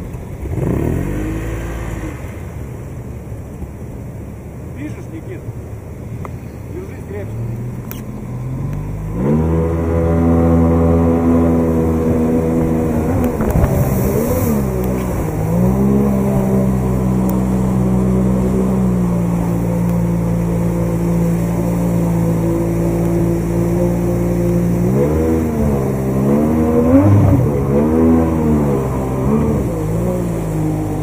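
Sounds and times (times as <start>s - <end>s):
outboard motor running hard: 0.0s - 31.0s
rushing rapids: 0.0s - 31.0s.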